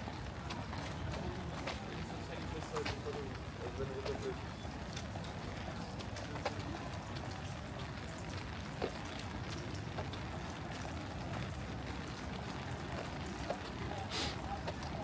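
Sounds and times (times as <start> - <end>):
raindrops ticking: 0.0 - 15.0
steady rain: 0.0 - 15.0.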